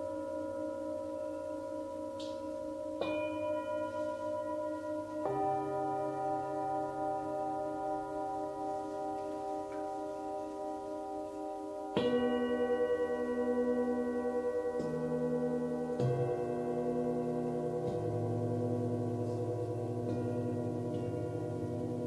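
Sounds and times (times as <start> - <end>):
singing bowls ringing: 0.0 - 22.0.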